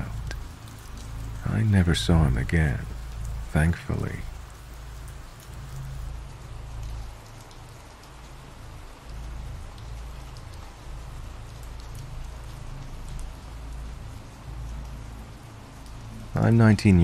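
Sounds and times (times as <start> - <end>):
raindrop ticks: 0.0 - 17.0
steady rain falling: 0.0 - 17.0.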